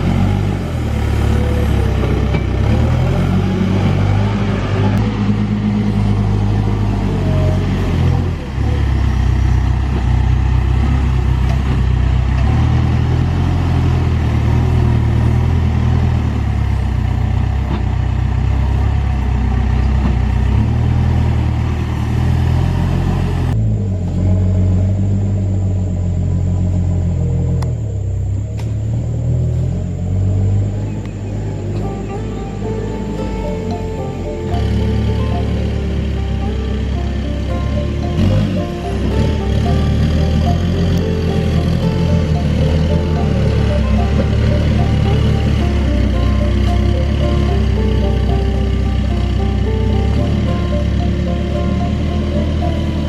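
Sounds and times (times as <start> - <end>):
diesel engine drone: 0.0 - 53.0.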